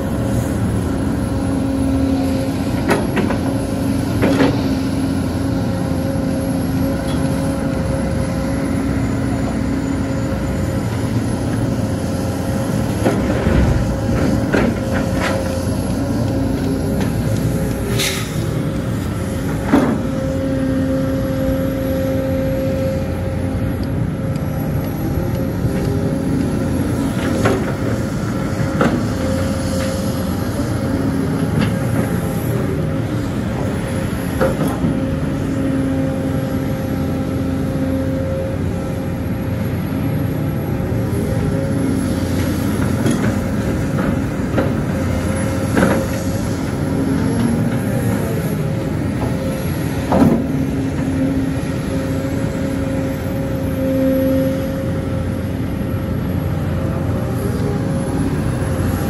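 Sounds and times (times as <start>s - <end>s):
excavator diesel engine: 0.0s - 59.0s
hydraulic whine: 0.0s - 59.0s.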